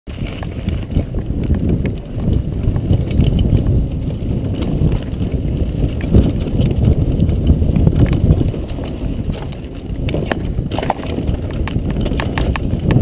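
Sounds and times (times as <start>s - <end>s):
bike knocking and clattering: 0.1s - 13.0s
bike tyres rumbling on dirt: 0.1s - 13.0s.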